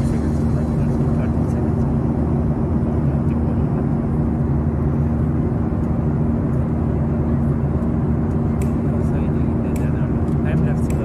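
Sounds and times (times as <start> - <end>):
jet airliner cabin drone: 0.0 - 11.0.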